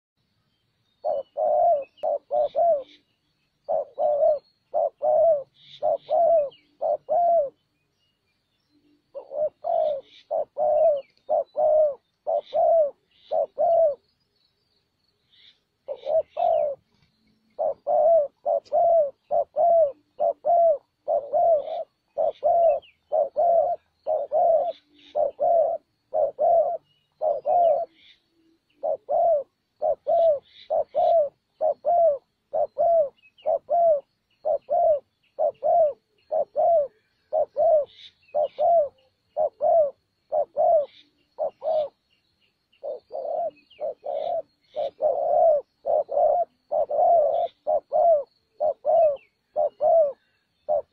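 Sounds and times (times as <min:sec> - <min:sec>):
small birds chirping: 0:00.2 - 0:50.9
dove cooing: 0:01.0 - 0:07.7, 0:08.8 - 0:14.1, 0:15.4 - 0:42.1, 0:42.8 - 0:50.9.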